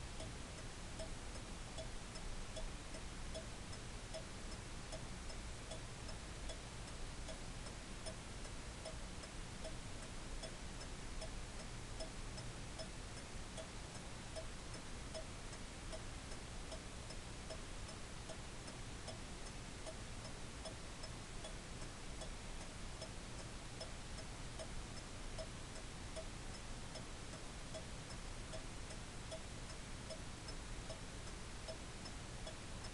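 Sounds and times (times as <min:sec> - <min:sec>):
clock ticking: 0:00.2 - 0:03.5, 0:04.9 - 0:06.6, 0:07.3 - 0:32.9.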